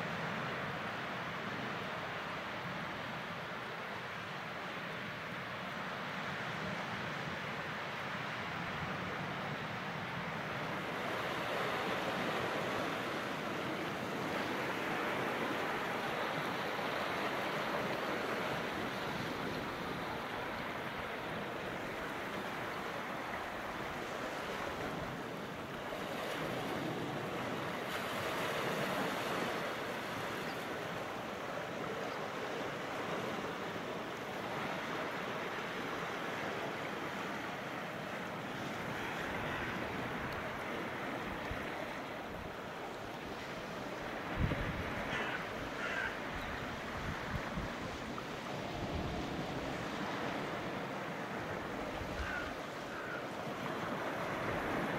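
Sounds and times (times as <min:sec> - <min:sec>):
sea waves breaking: 0:10.6 - 0:54.9.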